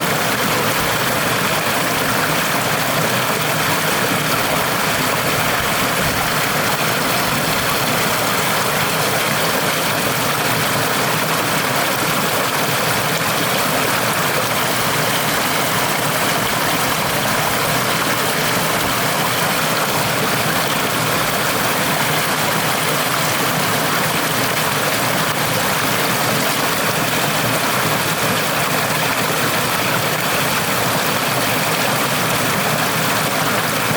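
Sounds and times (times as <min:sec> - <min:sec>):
stream flowing: 0:00.0 - 0:33.9.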